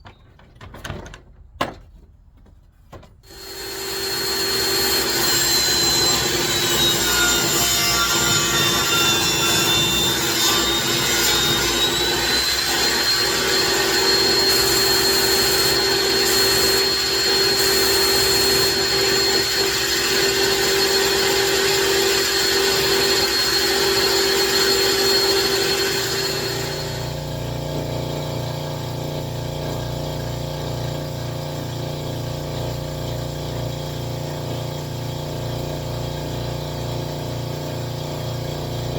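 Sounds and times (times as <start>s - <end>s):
electric saw cutting wood: 3.2s - 38.9s.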